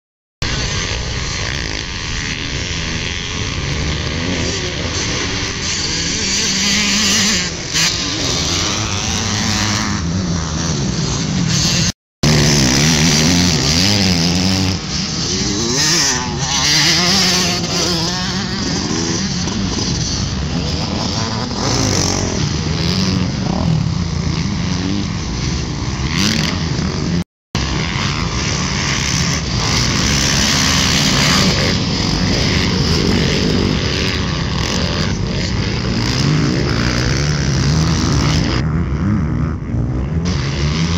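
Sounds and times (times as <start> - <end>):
dirt bike engines revving: 0.4 - 40.9.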